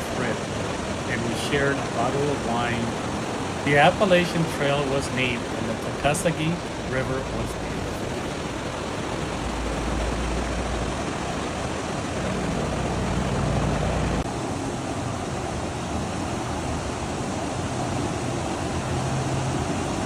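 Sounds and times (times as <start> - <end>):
moving passenger train rumble: 0.0 - 20.0.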